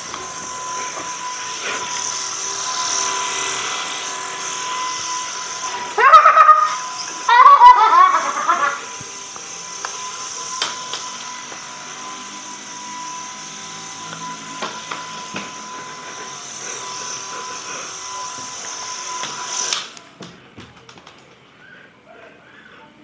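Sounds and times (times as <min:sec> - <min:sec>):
toy propeller motor whirring: 0:00.0 - 0:20.1.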